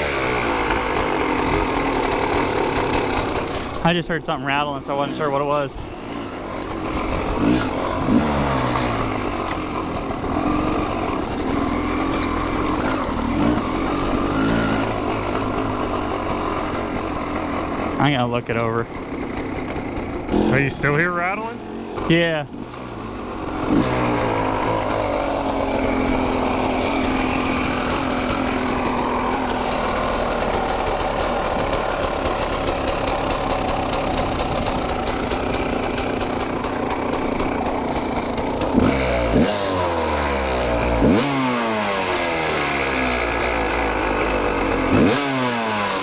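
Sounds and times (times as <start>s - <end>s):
exhaust rattle: 0.0s - 46.0s
two-stroke engine revving: 0.0s - 46.0s.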